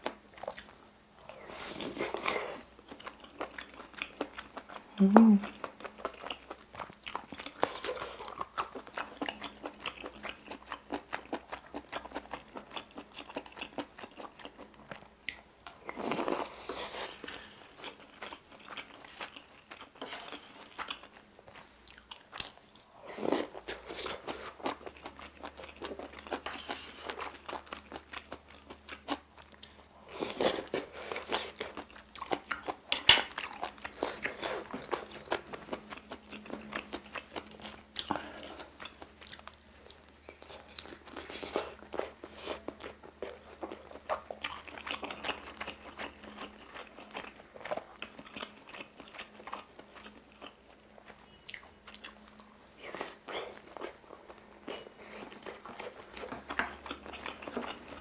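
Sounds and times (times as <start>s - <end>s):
wet chewing with small clicks: 0.0s - 22.9s, 23.6s - 58.0s.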